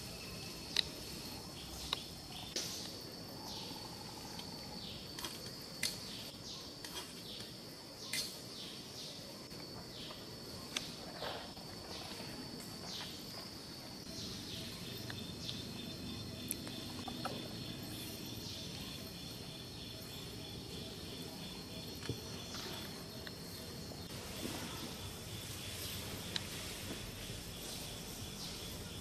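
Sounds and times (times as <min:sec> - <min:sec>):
birds chirping: 0:00.0 - 0:29.0
high insect drone: 0:00.0 - 0:29.0.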